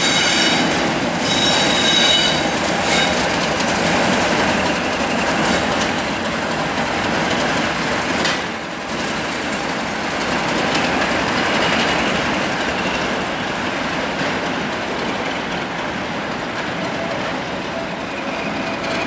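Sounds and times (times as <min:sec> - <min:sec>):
diesel locomotive engines: 0:00.0 - 0:19.0
wheels clacking over rail joints: 0:00.0 - 0:19.0.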